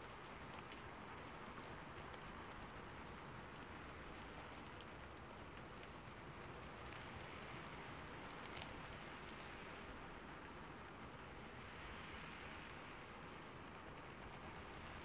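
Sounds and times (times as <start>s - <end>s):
rain on a rooftop: 0.0s - 15.0s.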